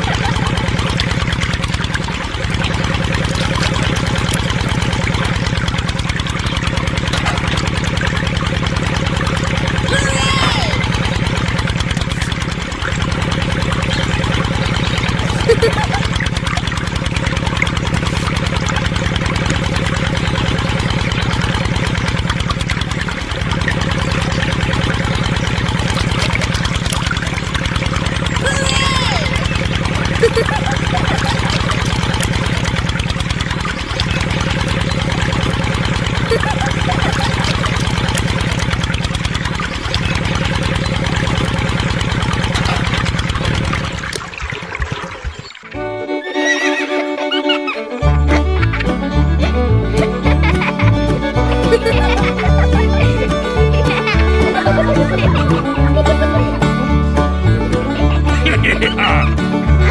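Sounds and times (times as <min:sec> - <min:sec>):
engine idling with rapid chug: 0:00.0 - 0:59.9.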